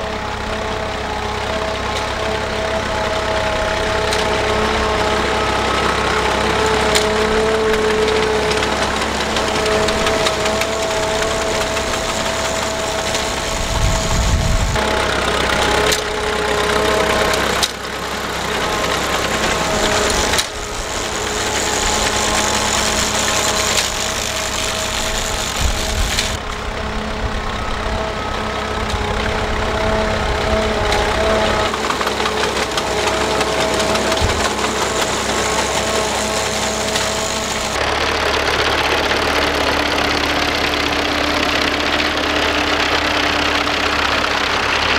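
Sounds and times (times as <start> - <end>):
clatter of cutting machinery: 0.0 - 44.9
tractor engines running: 0.0 - 44.9.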